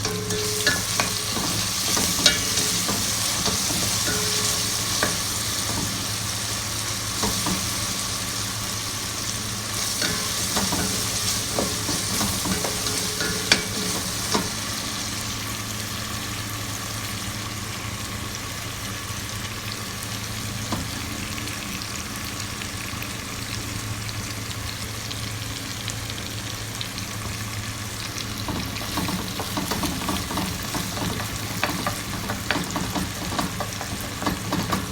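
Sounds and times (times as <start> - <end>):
food sizzling in a pan: 0.0 - 34.9.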